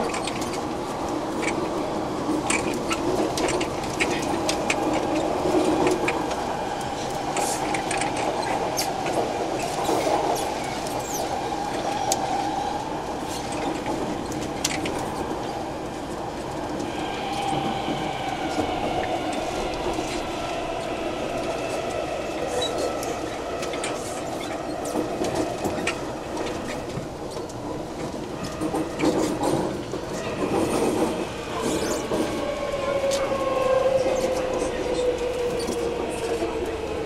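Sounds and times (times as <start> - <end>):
train wheel and rail rumble: 0.0 - 37.0.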